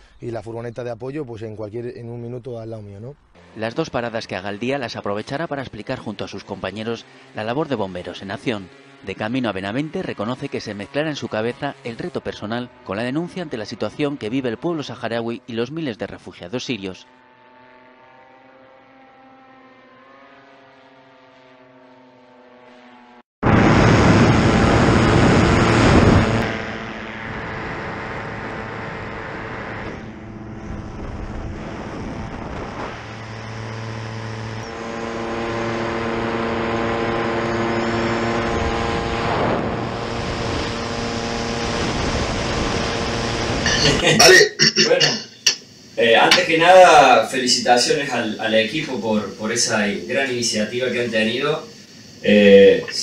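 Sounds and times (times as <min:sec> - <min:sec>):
paramotor engine and propeller: 0:03.2 - 0:15.5, 0:17.0 - 0:23.2, 0:23.9 - 0:43.8, 0:47.4 - 0:52.4.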